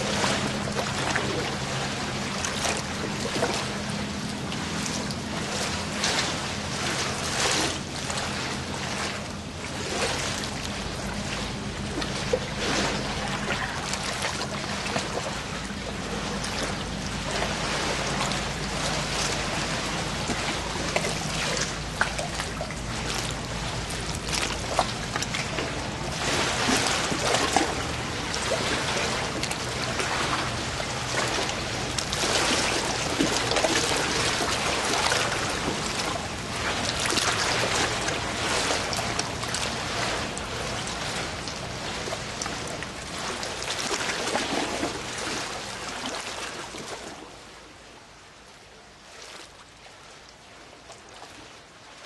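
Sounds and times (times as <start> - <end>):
rushing splashing water: 0.0 - 52.0.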